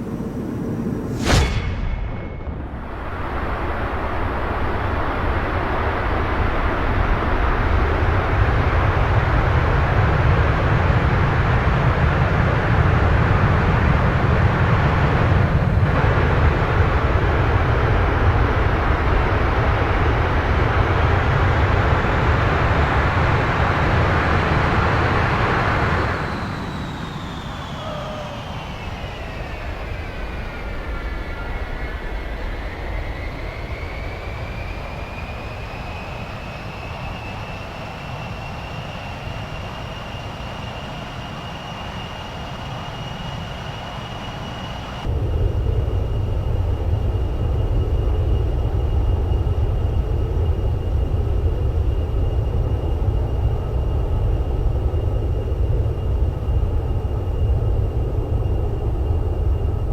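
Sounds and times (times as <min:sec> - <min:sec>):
jet engine turbine whine: 0:00.0 - 0:59.9.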